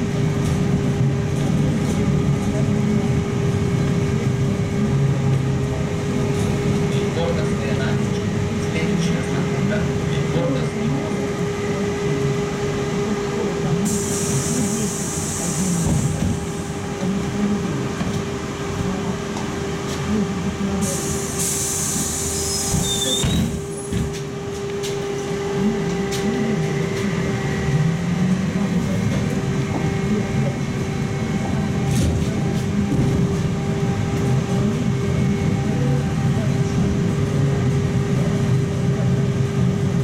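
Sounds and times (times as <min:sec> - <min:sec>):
road rumble: 0:00.0 - 0:40.0.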